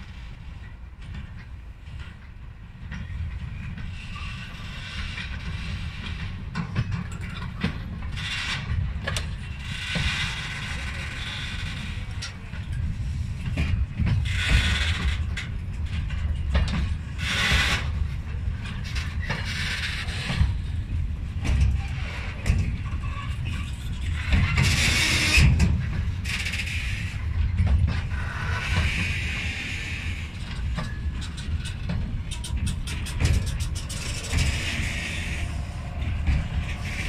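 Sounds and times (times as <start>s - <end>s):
train wheels rumbling: 0.0s - 37.0s
clattering over rail joints: 0.6s - 37.0s.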